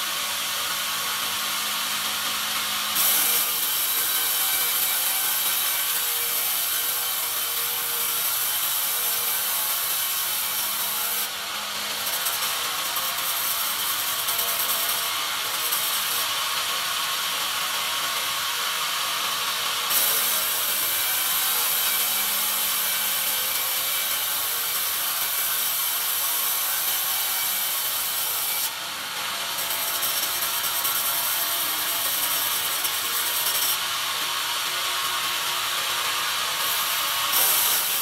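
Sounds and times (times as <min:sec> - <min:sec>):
band saw blade cutting wood: 0:00.0 - 0:38.0.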